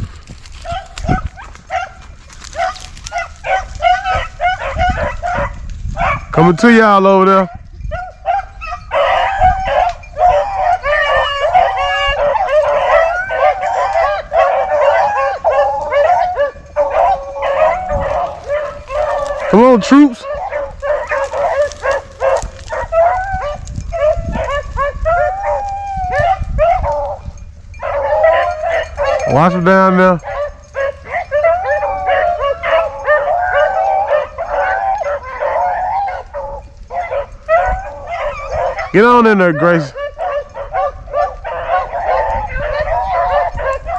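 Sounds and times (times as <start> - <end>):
hounds baying and howling: 0.0 - 43.9.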